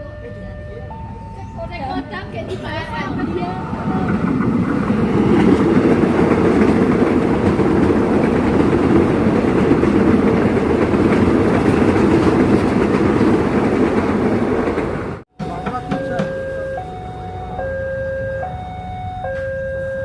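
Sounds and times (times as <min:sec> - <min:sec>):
train wheels rumbling on rails: 0:00.3 - 0:17.0.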